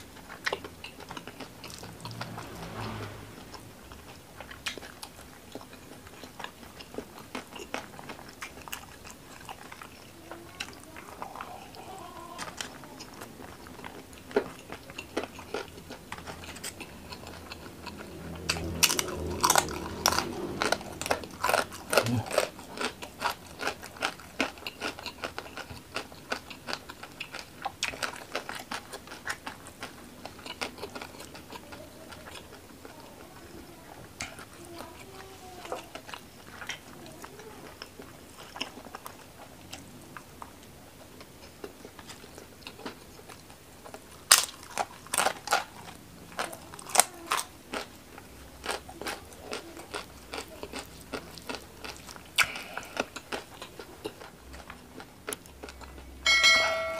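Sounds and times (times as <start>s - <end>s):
chewing crisp crackers: 0.0s - 3.0s, 3.9s - 56.2s.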